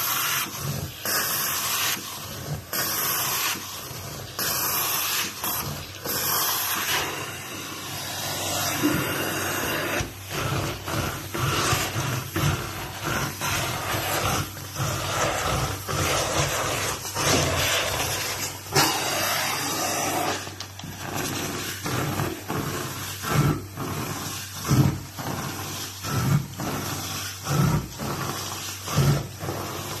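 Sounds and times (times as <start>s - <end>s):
carpet extractor spray and suction hiss: 0.0s - 30.0s.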